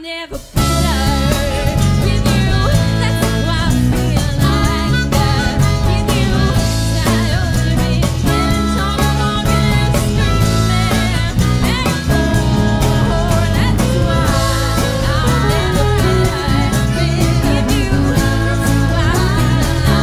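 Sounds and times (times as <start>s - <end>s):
person singing: 0.0s - 20.0s
live blues band playing: 0.3s - 20.0s.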